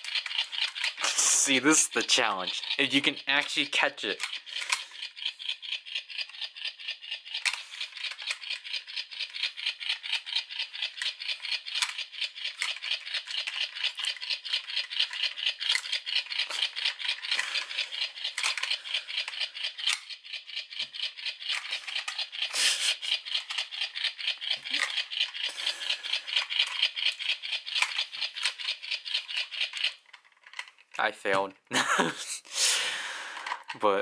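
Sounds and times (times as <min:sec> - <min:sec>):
hard plastic parts rattling: 0:00.0 - 0:31.6, 0:33.3 - 0:34.0.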